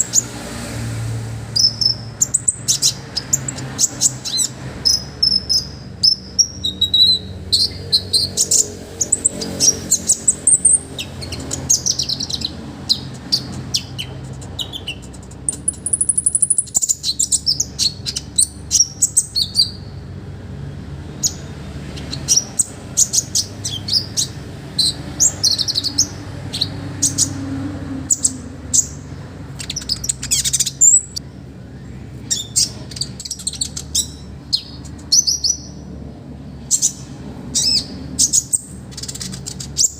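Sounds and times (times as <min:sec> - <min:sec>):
sunbird singing high chirps: 0:01.4 - 0:20.0, 0:21.1 - 0:35.9, 0:36.6 - 0:39.9.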